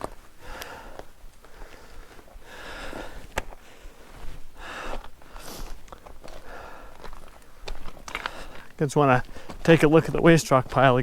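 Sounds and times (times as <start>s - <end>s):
man breathing heavily: 0.2s - 9.6s.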